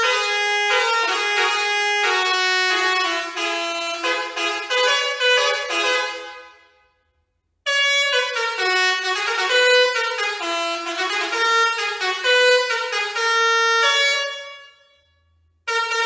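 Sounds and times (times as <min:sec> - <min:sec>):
musical air horn melody: 0:00.0 - 0:07.0, 0:07.6 - 0:16.0.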